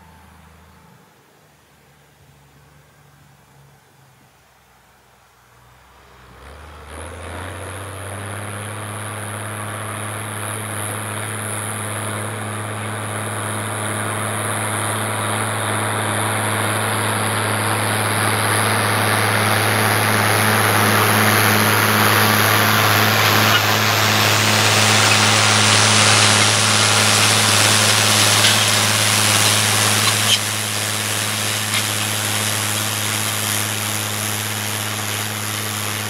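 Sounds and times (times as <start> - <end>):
tractor diesel engine working: 5.6 - 36.0.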